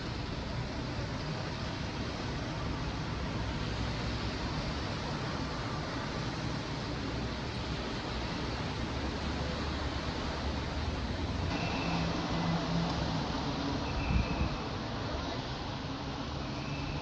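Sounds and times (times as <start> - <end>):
rushing road noise: 0.0 - 17.0.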